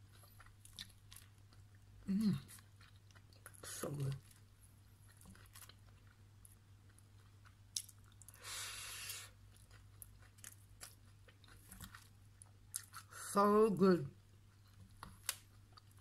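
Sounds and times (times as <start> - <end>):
faint chewing: 0.0 - 13.2, 14.3 - 16.0.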